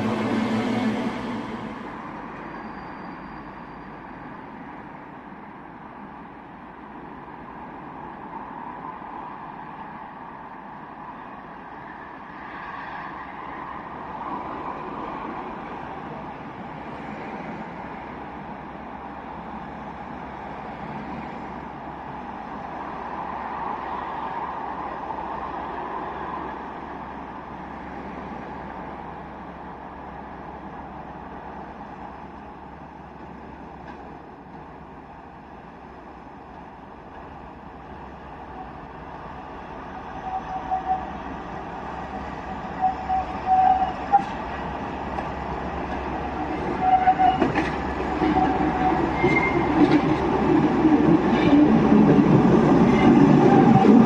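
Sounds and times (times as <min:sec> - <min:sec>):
train rumble: 0:00.0 - 0:08.9, 0:13.2 - 0:54.0.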